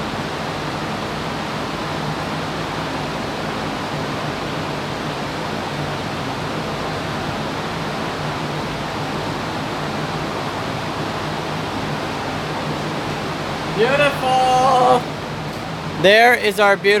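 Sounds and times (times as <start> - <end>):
fans rushing hiss: 0.0 - 17.0.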